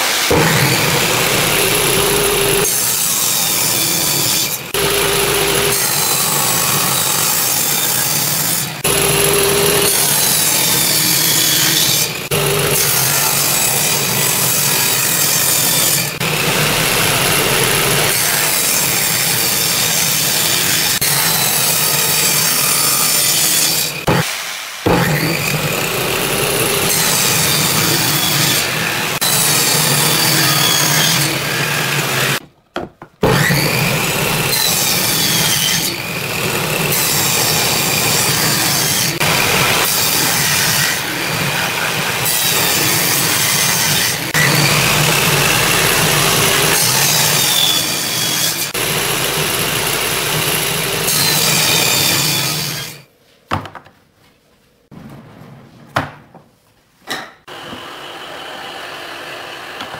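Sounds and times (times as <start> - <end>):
table saw cutting wood: 0.0 - 32.4, 33.2 - 53.1, 57.5 - 59.9.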